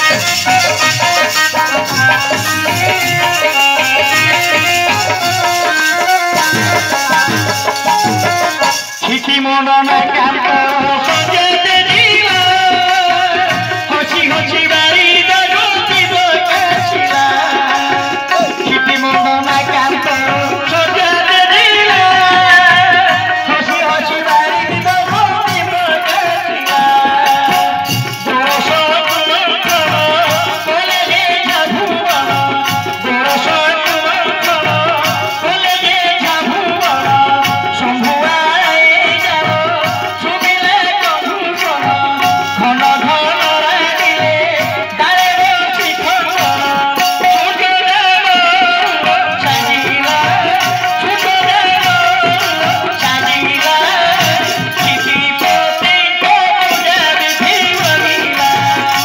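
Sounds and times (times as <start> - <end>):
hand drums steady beat: 0.0 - 59.0
wavering melody over loudspeaker: 0.0 - 59.0.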